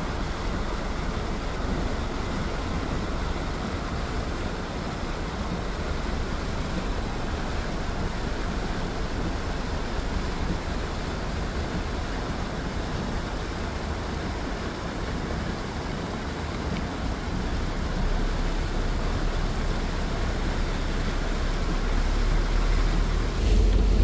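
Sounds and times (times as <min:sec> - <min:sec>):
car driving on wet road: 0:00.0 - 0:24.0
heavy rain: 0:00.0 - 0:24.0.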